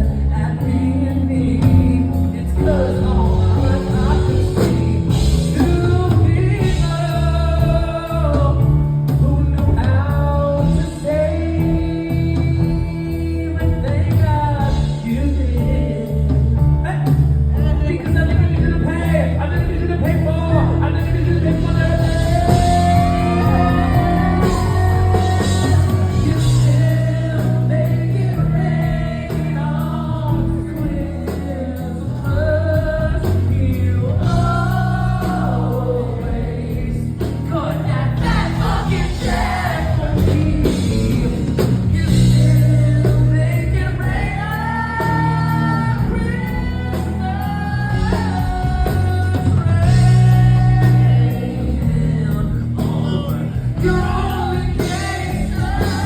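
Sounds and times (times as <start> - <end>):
held bass notes: 0.0 - 56.0
live band playing: 0.0 - 56.0
person singing: 0.0 - 56.0.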